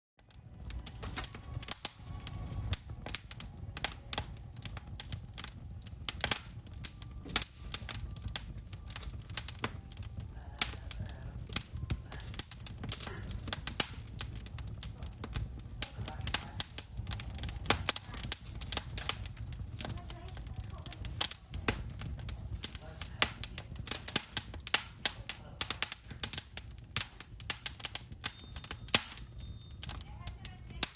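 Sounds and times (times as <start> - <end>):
low rumble: 0.2 - 30.9
wood fire crackling: 0.2 - 30.9.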